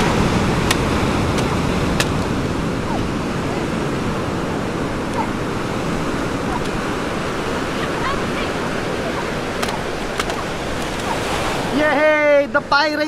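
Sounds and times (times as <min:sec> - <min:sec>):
wind noise on microphone: 0:00.0 - 0:11.8
ocean surf: 0:00.0 - 0:13.0.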